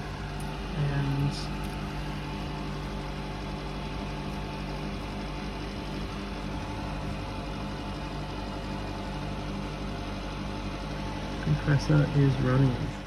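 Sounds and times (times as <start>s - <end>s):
fan moving air hiss: 0.0s - 13.0s
refrigeration compressor hum: 0.0s - 13.0s.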